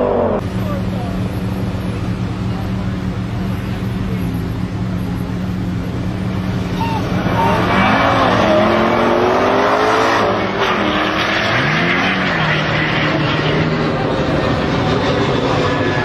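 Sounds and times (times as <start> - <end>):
car engines accelerating hard: 0.0 - 16.0.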